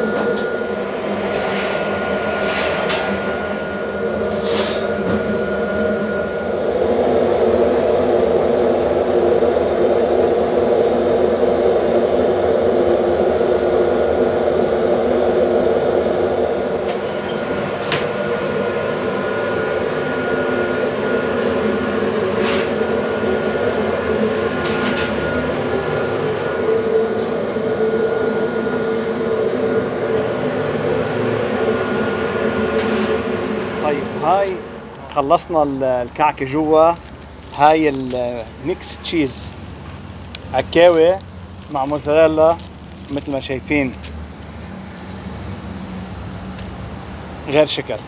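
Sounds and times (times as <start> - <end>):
oven and machinery roaring: 0.0 - 48.0.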